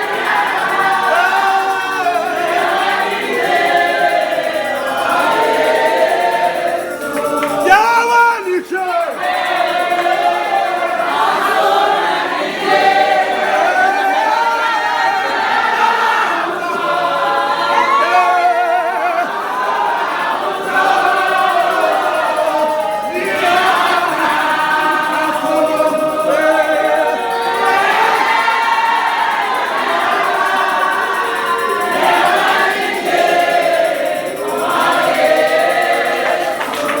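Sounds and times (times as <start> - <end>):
congregation singing unaccompanied: 0.0 - 37.0.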